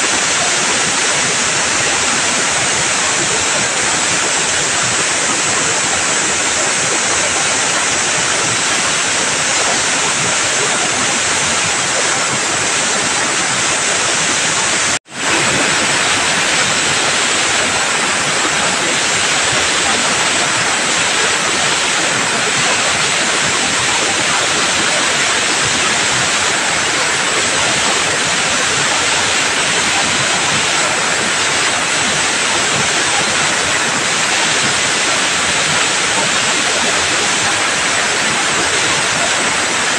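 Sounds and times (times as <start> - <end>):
cleaning jet hissing: 0.0 - 39.9.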